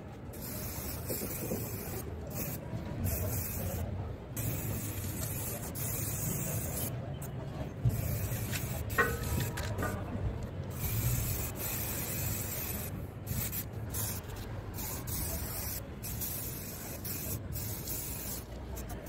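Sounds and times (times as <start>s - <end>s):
spray paint can hissing: 0.3s - 3.8s, 4.4s - 6.9s, 7.9s - 10.0s, 10.7s - 19.0s.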